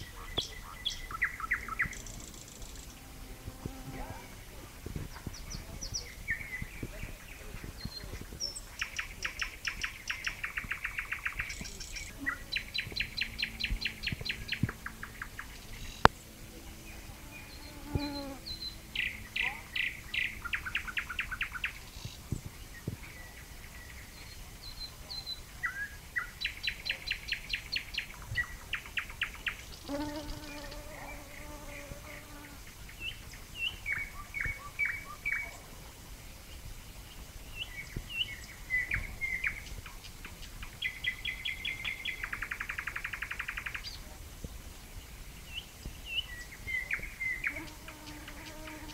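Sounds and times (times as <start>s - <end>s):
nightingale singing: 0.0s - 3.0s, 5.1s - 16.3s, 17.4s - 35.7s, 37.4s - 44.1s, 45.4s - 48.9s.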